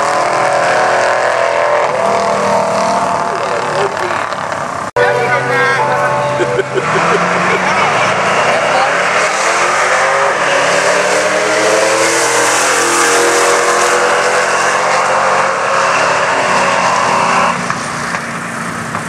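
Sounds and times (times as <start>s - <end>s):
car engines accelerating hard: 0.0s - 19.0s.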